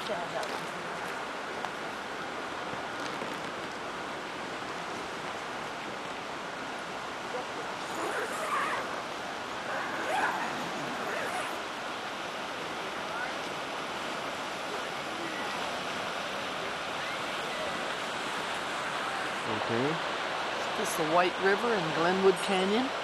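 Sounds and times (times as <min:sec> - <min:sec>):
fast river rushing: 0:00.0 - 0:23.0.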